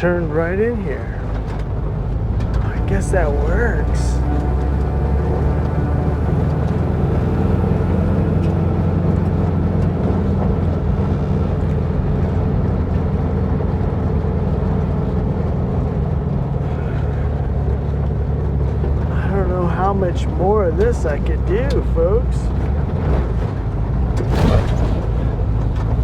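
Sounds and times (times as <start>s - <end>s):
van engine running: 0.0s - 26.0s.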